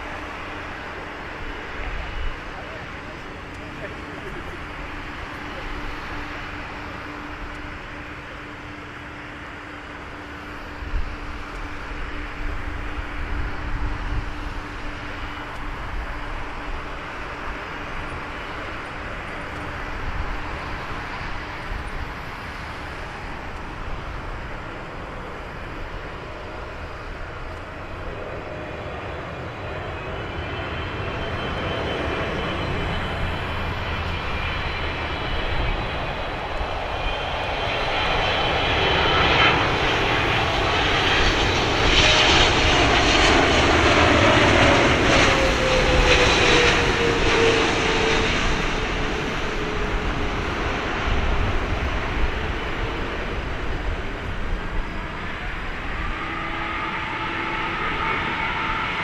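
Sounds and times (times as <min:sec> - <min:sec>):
high engine whine: 0:00.0 - 0:59.0
jet engines rumbling: 0:00.0 - 0:59.0.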